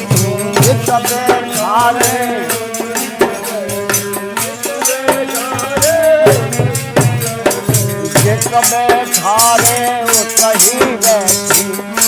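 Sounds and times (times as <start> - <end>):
hand drum beat: 0.0 - 12.0
rattling percussion: 0.0 - 12.0.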